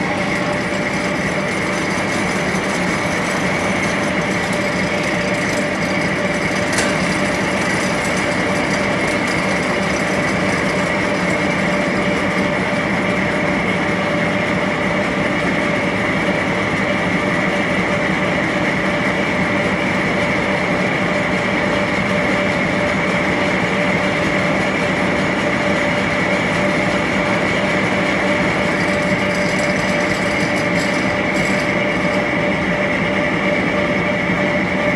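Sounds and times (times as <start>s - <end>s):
machine tool whirring: 0.0s - 33.3s.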